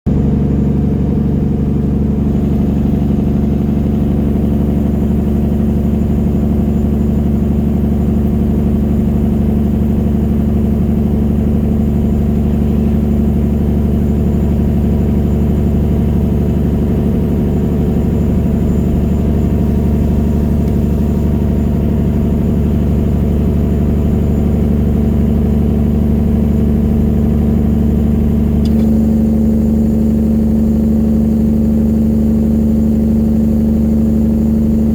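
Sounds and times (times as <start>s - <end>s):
diesel truck engine droning: 0.1s - 34.9s.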